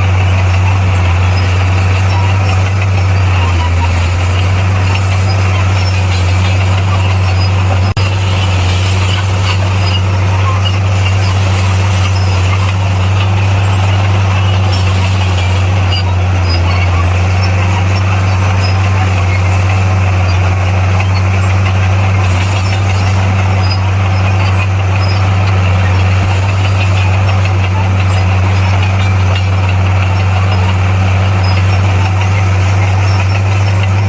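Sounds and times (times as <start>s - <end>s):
bulldozer diesel engine droning: 0.0s - 34.0s.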